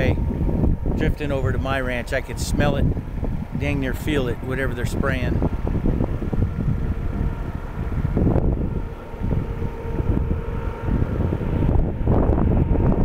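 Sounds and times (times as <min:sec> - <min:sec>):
distant sprayer engine humming: 0:00.0 - 0:13.0
wind buffeting microphone: 0:00.0 - 0:13.0.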